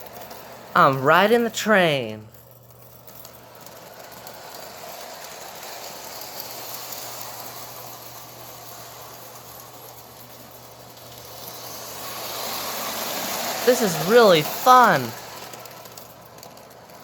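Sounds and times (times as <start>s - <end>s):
toy train motor whirring: 0.0s - 0.7s, 2.7s - 17.0s.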